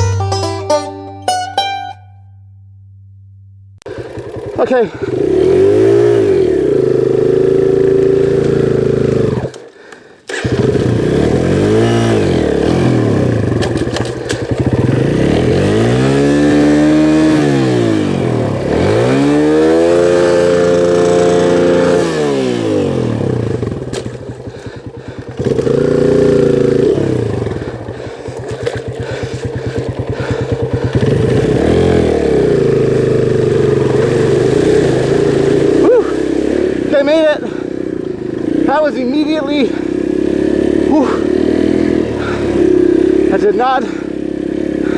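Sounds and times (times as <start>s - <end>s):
dirt bike engine revving: 3.8s - 44.9s.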